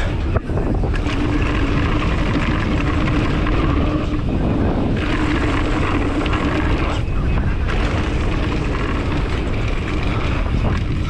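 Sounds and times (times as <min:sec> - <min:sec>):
bicycle freehub buzzing: 0:00.0 - 0:11.0
bike tyres on packed dirt: 0:00.0 - 0:11.0
wind rushing over microphone: 0:00.0 - 0:11.0.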